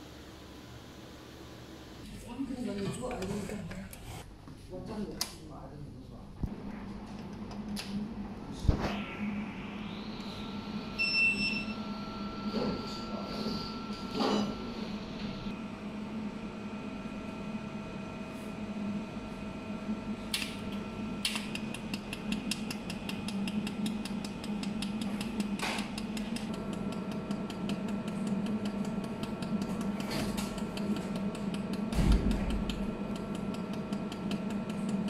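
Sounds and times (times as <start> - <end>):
cooling hum: 0.0 - 4.4, 6.2 - 35.0.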